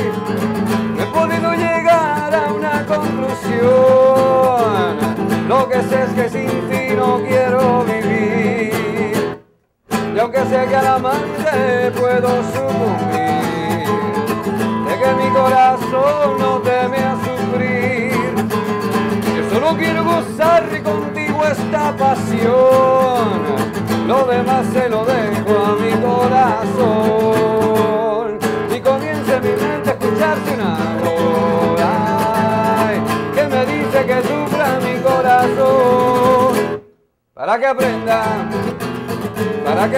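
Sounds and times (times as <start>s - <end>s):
acoustic guitar strumming: 0.0s - 37.0s, 37.8s - 39.9s.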